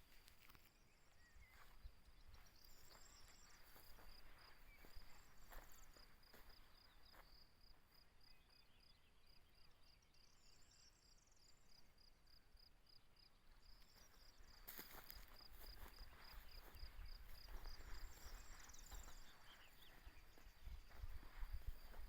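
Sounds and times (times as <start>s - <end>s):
cricket chirping: 0.0s - 22.0s
faint bird chirps: 0.0s - 22.0s.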